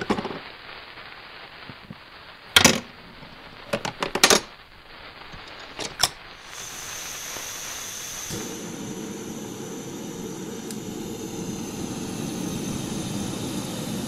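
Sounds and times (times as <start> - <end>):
gas stove burner hissing: 0.0 - 14.0.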